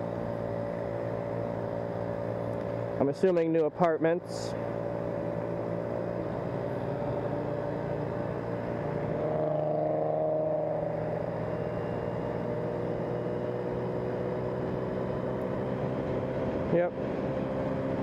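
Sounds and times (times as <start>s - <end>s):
road noise: 0.0s - 18.0s
vehicle engine droning: 0.0s - 18.0s.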